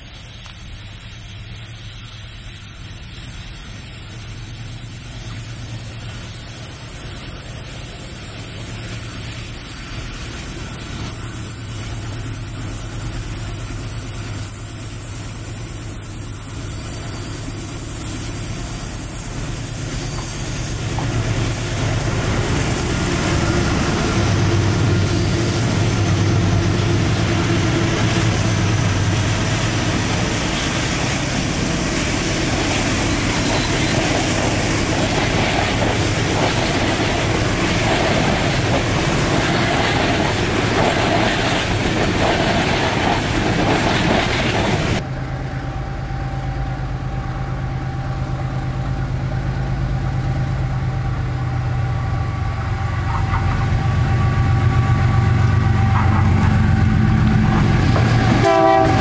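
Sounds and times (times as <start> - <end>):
freight locomotive engines droning: 0.0 - 59.0.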